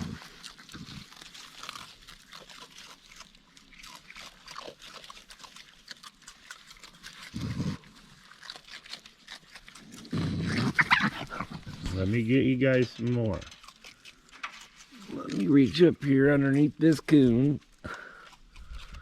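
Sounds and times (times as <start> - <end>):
raccoons chewing and crunching: 0.0 - 19.0.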